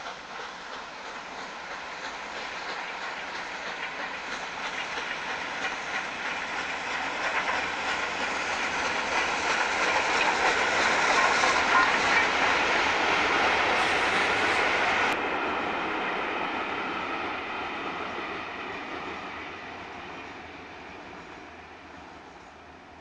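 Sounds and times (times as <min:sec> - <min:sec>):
carriages clickety-clack on rails: 0:00.0 - 0:22.8
steam train rushing past: 0:00.0 - 0:23.0.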